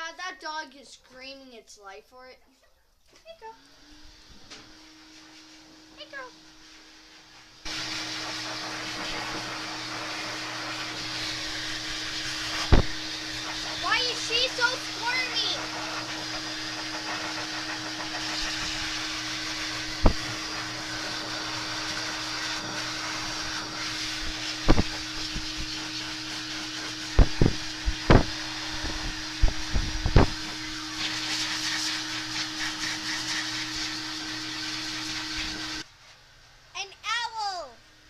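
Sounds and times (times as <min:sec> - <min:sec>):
blow dryer running: 0:03.4 - 0:35.9.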